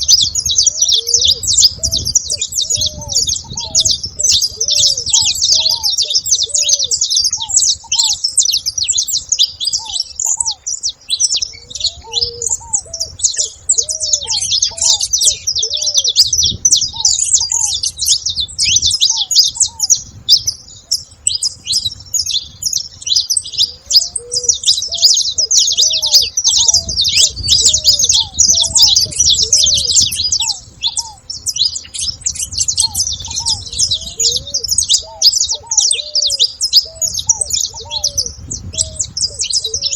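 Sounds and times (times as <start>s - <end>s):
finches chirping: 0.0s - 39.9s
low arched bird notes: 0.0s - 39.9s.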